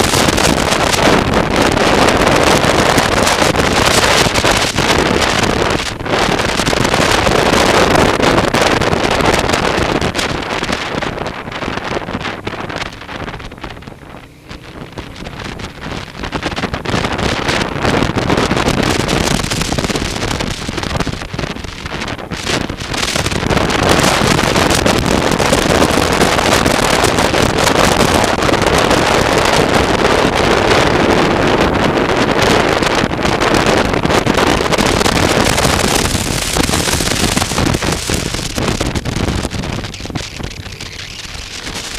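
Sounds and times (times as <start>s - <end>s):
motorcycle engine: 0.0s - 41.9s
road noise: 0.0s - 41.9s
wind rushing over microphone: 0.0s - 41.9s.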